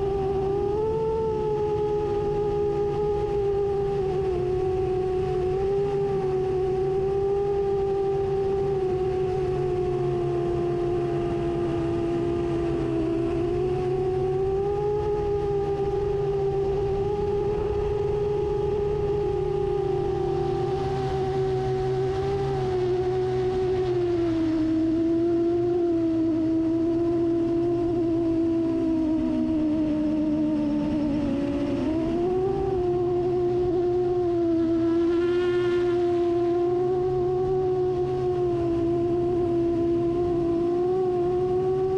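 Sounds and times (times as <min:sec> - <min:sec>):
drone motors whining: 0:00.0 - 0:41.9.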